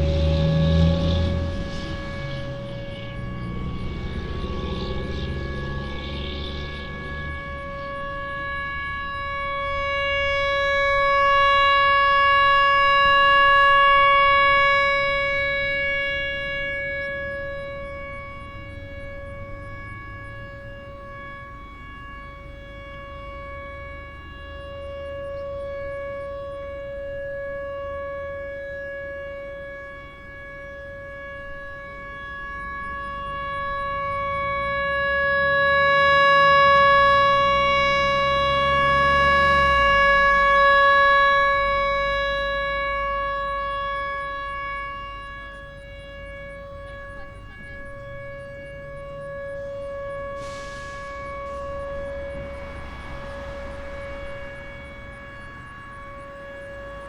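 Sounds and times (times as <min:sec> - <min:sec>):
rotating warning siren: 0:00.0 - 0:57.0.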